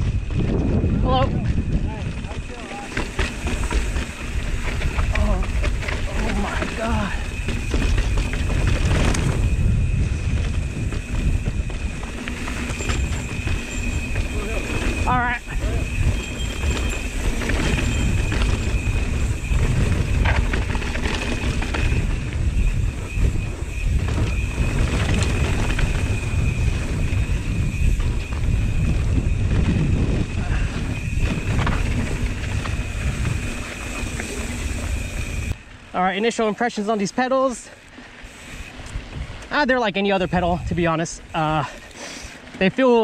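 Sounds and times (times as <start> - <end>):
wind buffeting microphone: 0.0 - 35.9, 38.1 - 43.0
steady high whine: 0.0 - 37.2
bike clicks and rattles: 0.0 - 43.0
tyres rumbling over dirt: 0.0 - 43.0.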